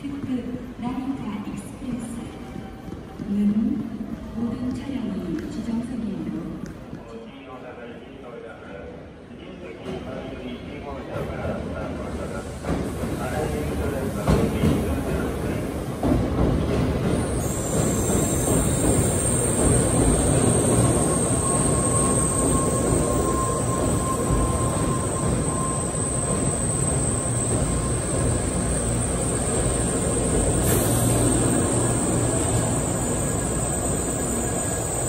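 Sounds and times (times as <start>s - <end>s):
train rumbling into station: 0.0s - 35.0s.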